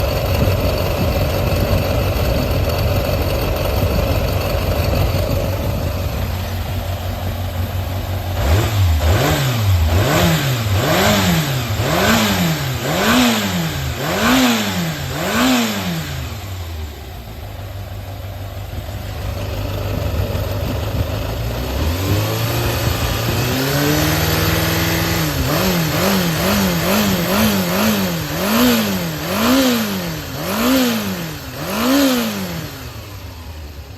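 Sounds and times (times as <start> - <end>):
engine idling and revving: 0.0 - 33.9.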